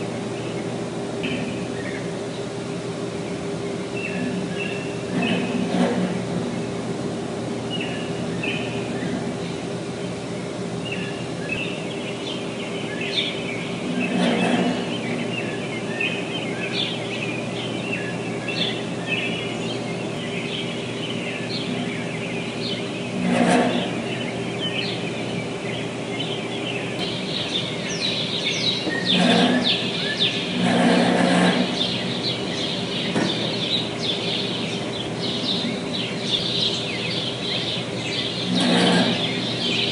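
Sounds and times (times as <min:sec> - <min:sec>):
birds chirping: 0:00.0 - 0:39.9
refrigerated container units humming: 0:00.0 - 0:39.9.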